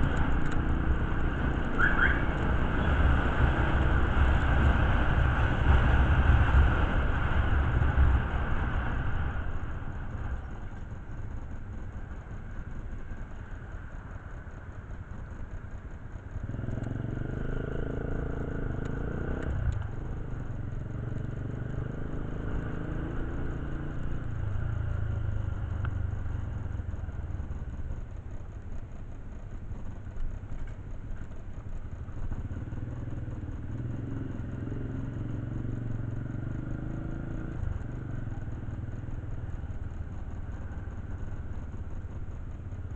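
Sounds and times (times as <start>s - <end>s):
motorcycle engines running: 0.0s - 42.9s.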